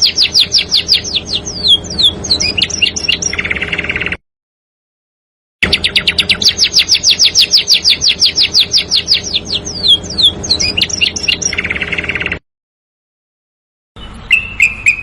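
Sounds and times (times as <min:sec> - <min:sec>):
bird chirps: 0:00.0 - 0:04.2, 0:05.6 - 0:12.4, 0:14.0 - 0:15.0
songbird whistled song: 0:00.0 - 0:04.2, 0:05.6 - 0:12.4, 0:14.0 - 0:15.0.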